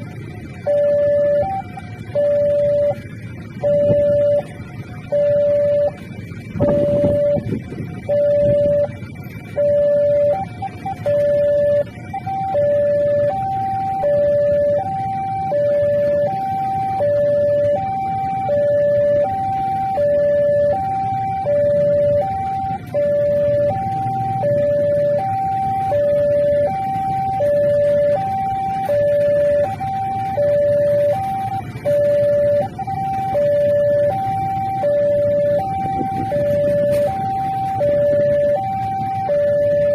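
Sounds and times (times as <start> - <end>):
level crossing two-tone warning signal: 0.0 - 39.9
low rumble of road traffic: 0.0 - 39.9.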